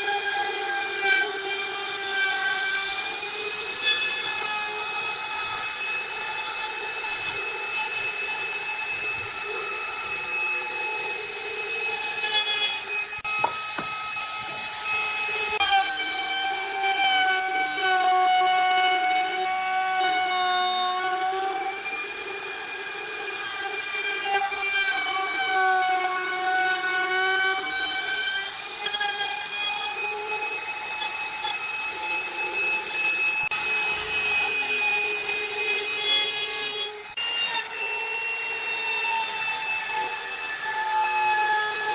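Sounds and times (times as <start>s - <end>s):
power tool whining cutting wood: 0.0s - 41.9s.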